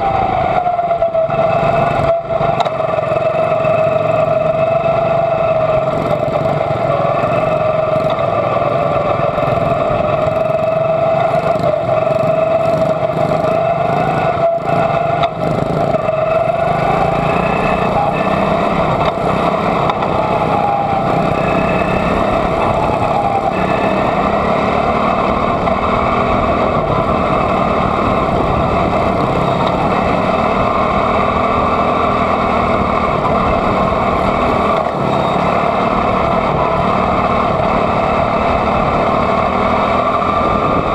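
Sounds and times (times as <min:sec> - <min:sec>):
small engine running: 0:00.0 - 0:40.9
surrounding car engines: 0:00.0 - 0:40.9.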